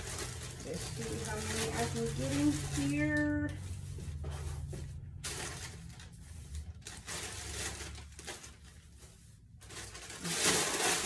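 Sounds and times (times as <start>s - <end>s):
plastic wrapping crinkling: 0.0s - 4.0s, 4.6s - 11.0s.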